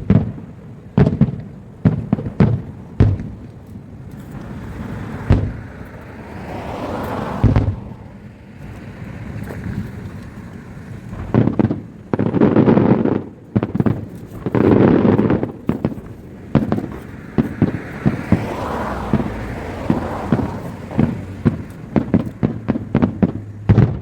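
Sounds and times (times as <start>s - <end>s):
fireworks booming: 0.0s - 24.0s
fireworks cracking and popping: 0.0s - 24.0s.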